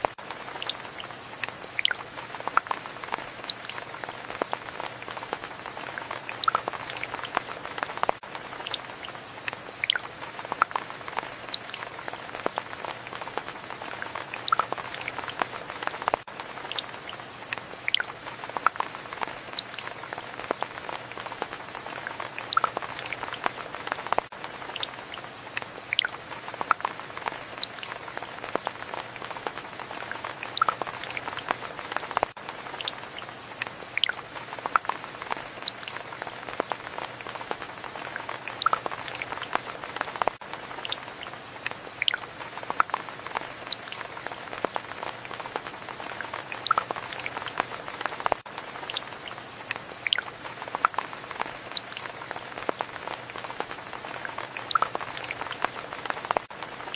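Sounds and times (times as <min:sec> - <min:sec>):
steady rain pattering: 0:00.0 - 0:56.9.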